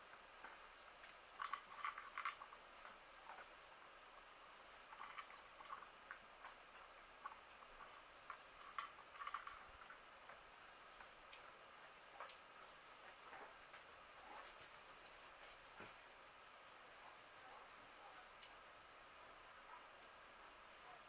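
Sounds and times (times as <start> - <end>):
faint ticks and clicks: 0.0 - 21.0.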